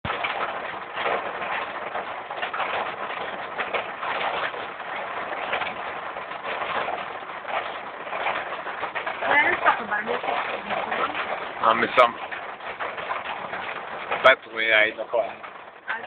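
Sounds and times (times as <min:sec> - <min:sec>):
hail and rain falling hard: 0:00.0 - 0:16.0.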